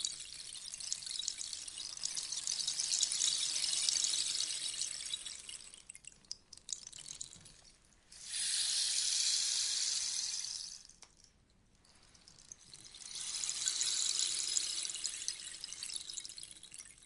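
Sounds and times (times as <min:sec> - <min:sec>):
rainstick pellets cascading: 0:00.0 - 0:11.2, 0:11.9 - 0:17.0.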